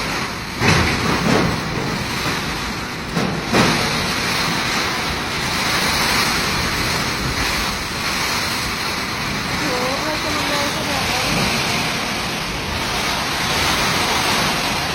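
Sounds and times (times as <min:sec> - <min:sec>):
storm wind gusting: 0:00.0 - 0:14.9.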